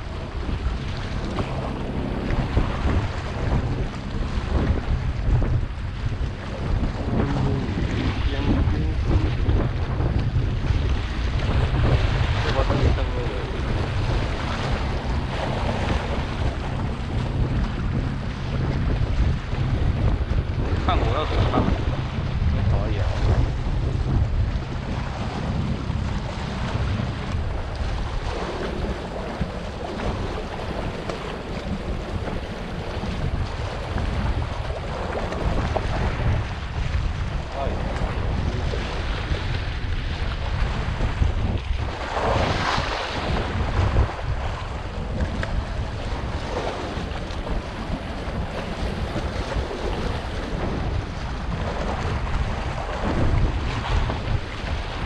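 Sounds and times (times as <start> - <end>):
sea waves against rocks: 0.0 - 55.0
wind buffeting microphone: 0.0 - 55.0.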